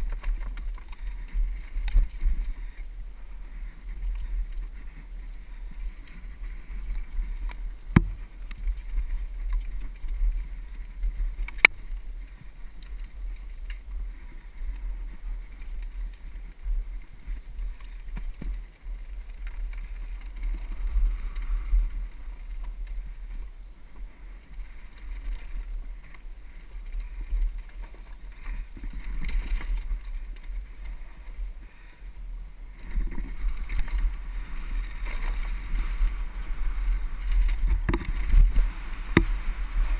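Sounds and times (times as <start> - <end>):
bike and trail rattle: 0.0 - 39.9
wind rumble on microphone: 0.0 - 39.9.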